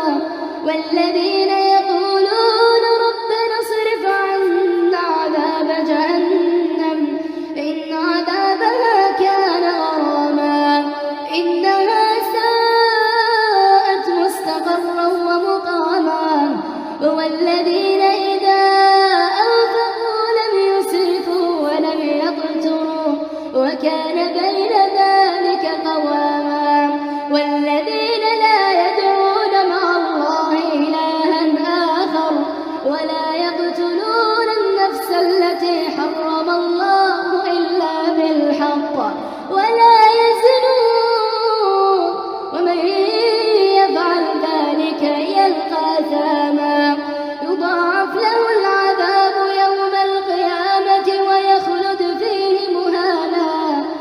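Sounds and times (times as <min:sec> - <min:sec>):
voice chanting melodic recitation: 0:00.0 - 0:54.0.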